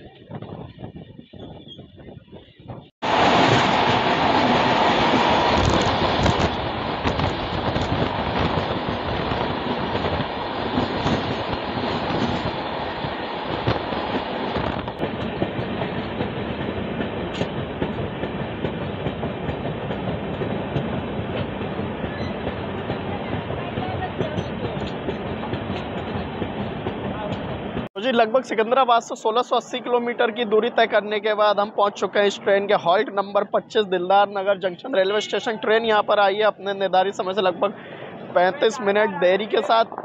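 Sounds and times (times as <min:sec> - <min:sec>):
train passing at speed: 0:03.0 - 0:40.0.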